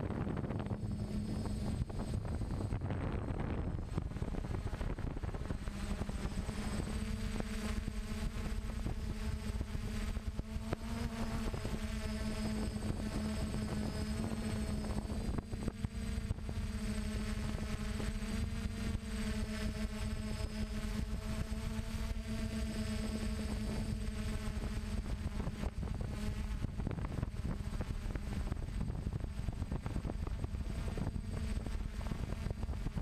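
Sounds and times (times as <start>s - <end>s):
wind rumble on microphone: 0.0s - 33.0s
drone motors buzzing: 0.1s - 33.0s.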